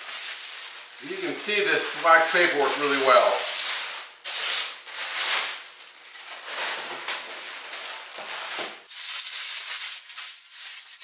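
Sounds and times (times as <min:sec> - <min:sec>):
plastic bag and wax paper crinkling: 0:00.0 - 0:11.0.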